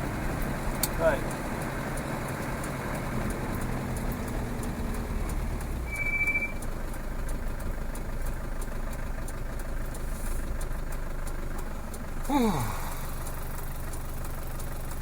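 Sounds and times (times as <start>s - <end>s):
engine low rumble from inside cab: 0.0s - 15.0s.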